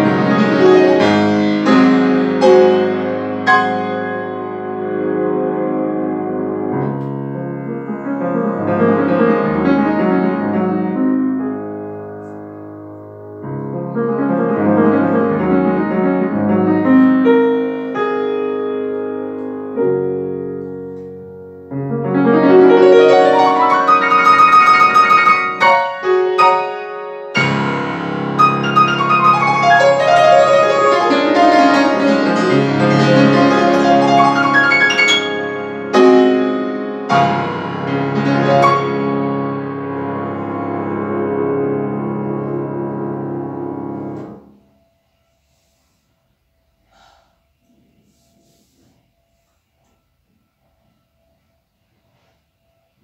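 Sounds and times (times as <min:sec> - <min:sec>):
solo grand piano: 0:00.0 - 0:53.0.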